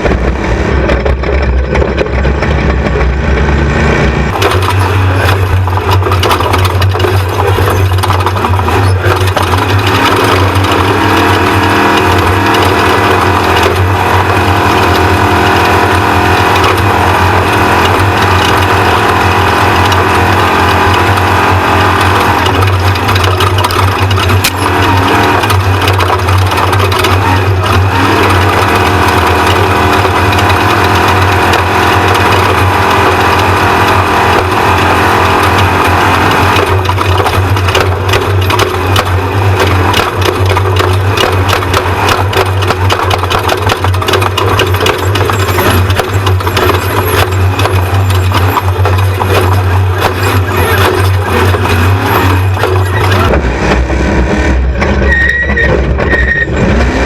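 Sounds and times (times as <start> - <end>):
rattling and knocking: 0.0 - 54.0
truck engine running hard: 0.0 - 57.0.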